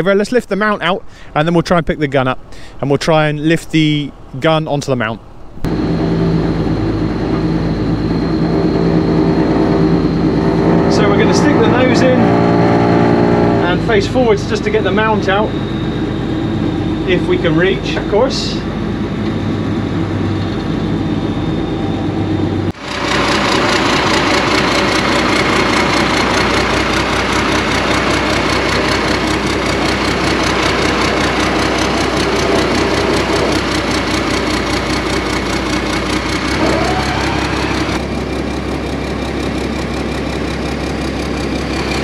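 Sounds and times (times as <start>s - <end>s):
rising whine: 5.2s - 42.0s
diesel engine running: 5.6s - 42.0s
crane hydraulics working: 5.7s - 42.0s.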